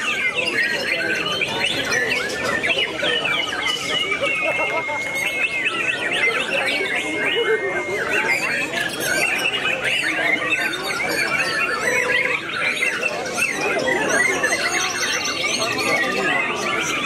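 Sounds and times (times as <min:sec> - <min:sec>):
birds singing whistles and trills: 0:00.0 - 0:17.0.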